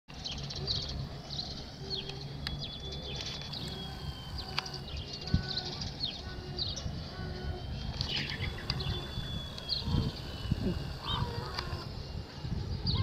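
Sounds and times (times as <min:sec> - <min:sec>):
small birds chirping: 0:00.1 - 0:11.9
steady low rumble: 0:00.1 - 0:13.0.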